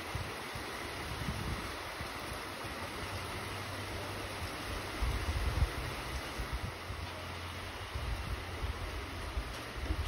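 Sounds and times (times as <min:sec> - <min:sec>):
steady rain hiss: 0:00.0 - 0:10.0
wind rumbling on microphone: 0:00.0 - 0:10.0.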